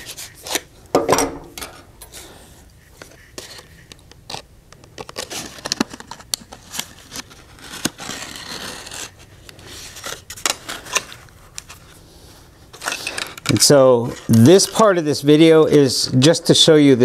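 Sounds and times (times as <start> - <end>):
rawhide crackling and sinew rasping: 2.8 - 17.0.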